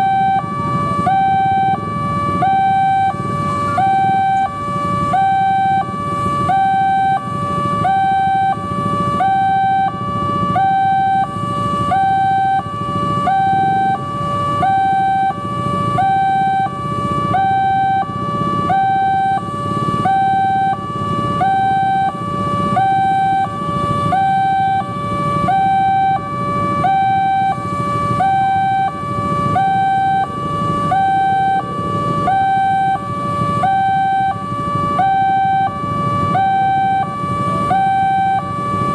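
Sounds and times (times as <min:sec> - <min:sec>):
road traffic: 0:00.0 - 0:38.9
two-tone level crossing alarm: 0:00.0 - 0:38.9.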